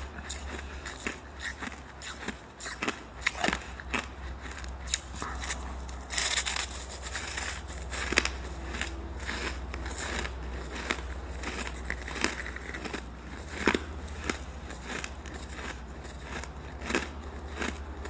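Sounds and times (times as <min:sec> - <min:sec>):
ice being chewed crunching: 0:00.0 - 0:18.0.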